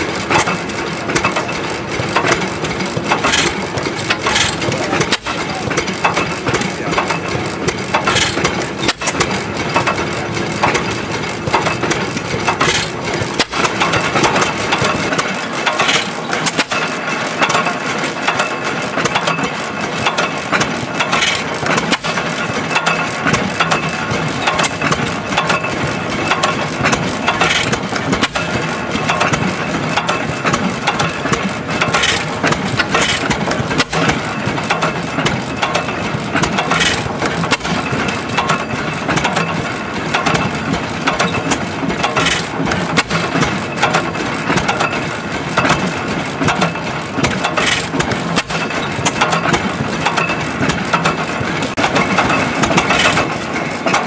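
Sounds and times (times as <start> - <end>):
engine firing stroke: 0.0 - 54.0
engine valve gear clatter: 0.0 - 54.0.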